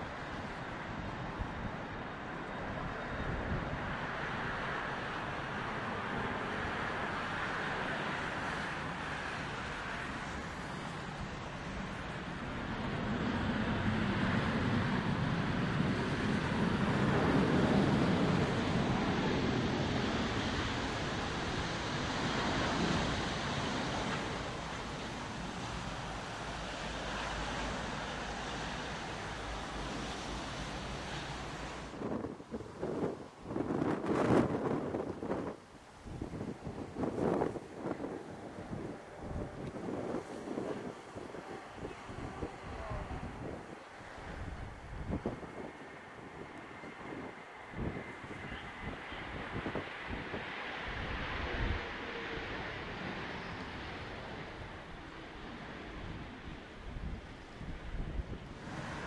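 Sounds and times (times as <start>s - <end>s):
jet engine roar: 0.0s - 35.6s, 36.2s - 59.0s
wind buffeting microphone: 0.0s - 59.0s.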